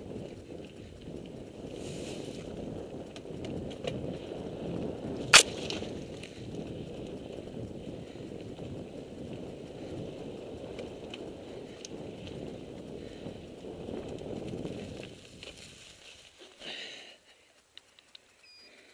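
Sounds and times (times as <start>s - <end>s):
bike rattles and clicks: 0.0s - 18.9s
mountain bike tyres rolling on dirt: 0.0s - 18.9s.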